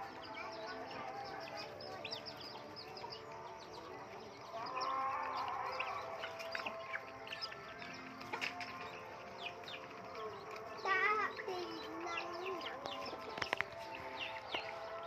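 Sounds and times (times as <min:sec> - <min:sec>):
chickens calling: 0:00.0 - 0:15.0
chicks peeping: 0:00.0 - 0:15.0.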